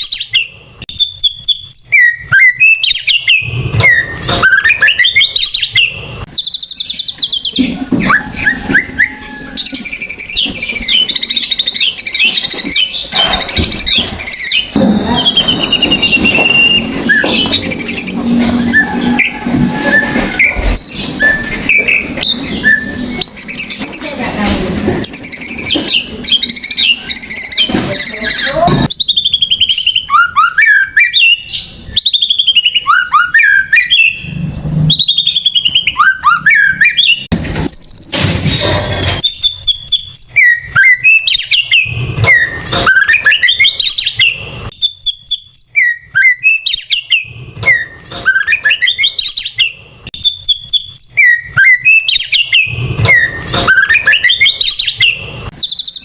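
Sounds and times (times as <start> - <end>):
songbird whistling: 0.0 - 24.1, 25.0 - 38.2, 39.2 - 56.0.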